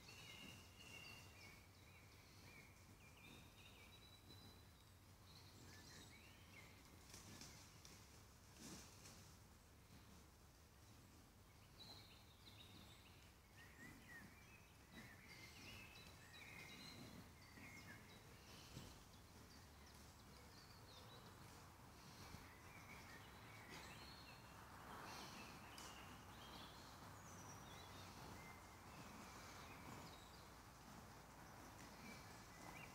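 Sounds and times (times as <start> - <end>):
small birds chirping: 0.0 - 9.2, 9.8 - 32.9.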